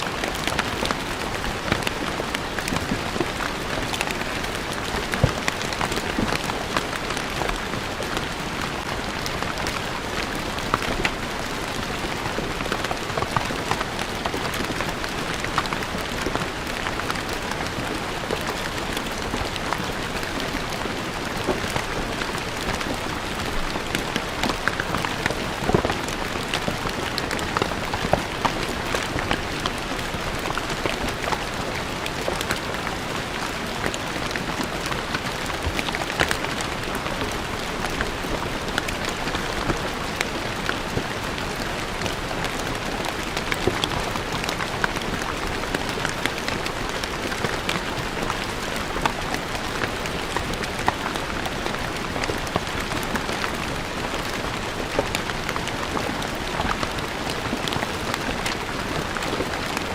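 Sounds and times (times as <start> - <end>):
rain on stone paving: 0.0 - 59.9.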